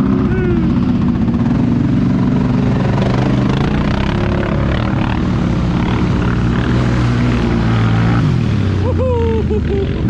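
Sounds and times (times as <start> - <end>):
atv engines running: 0.0 - 10.0.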